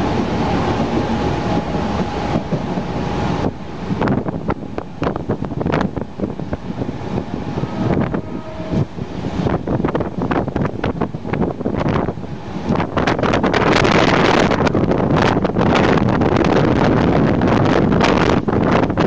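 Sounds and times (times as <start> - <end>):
train rumble from inside: 0.0 - 19.0
wind gusts on microphone: 0.0 - 19.0.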